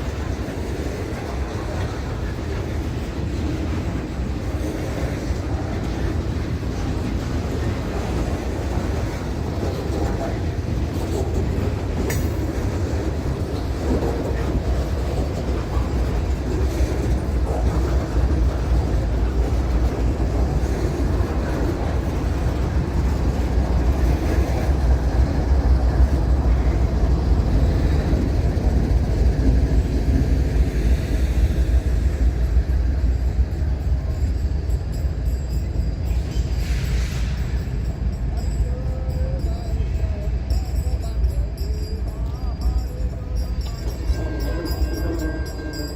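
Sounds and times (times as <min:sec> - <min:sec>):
train cars rolling on rails: 0:00.0 - 0:45.9.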